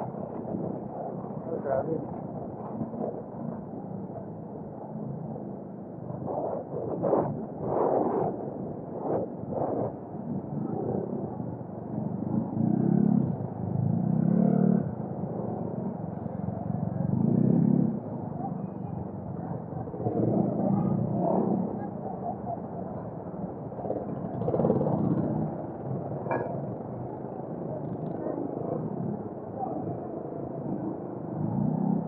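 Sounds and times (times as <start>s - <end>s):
muffled vehicle engine: 0.0s - 32.0s.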